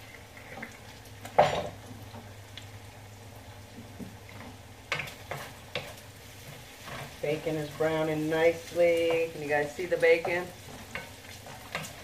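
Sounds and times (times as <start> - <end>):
sauce bubbling in a frying pan: 0.0 - 12.0.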